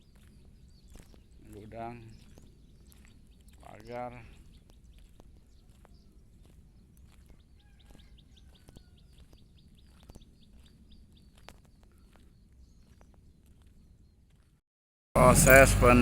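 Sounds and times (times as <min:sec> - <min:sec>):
bird chirping: 0:00.0 - 0:14.2.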